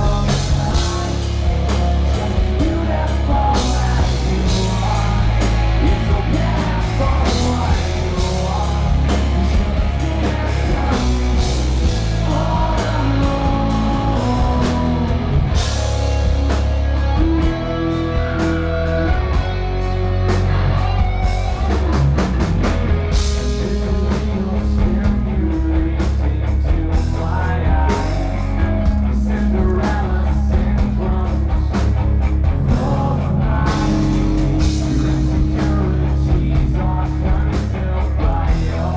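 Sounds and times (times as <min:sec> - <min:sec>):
person singing lead vocal: 0:00.0 - 0:38.9
rock band playing live: 0:00.0 - 0:38.9.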